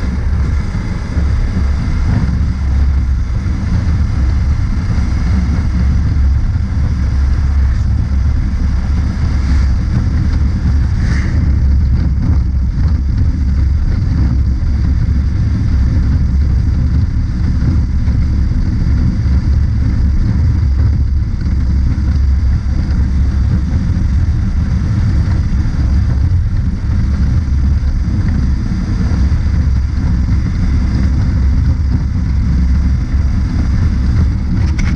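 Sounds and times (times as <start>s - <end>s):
motorcycle engine running: 0.0s - 34.9s
wind rushing over microphone: 0.0s - 34.9s.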